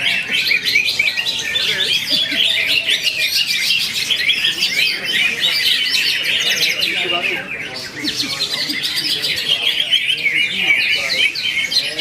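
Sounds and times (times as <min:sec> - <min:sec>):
bird chirps and trills: 0:00.0 - 0:12.0.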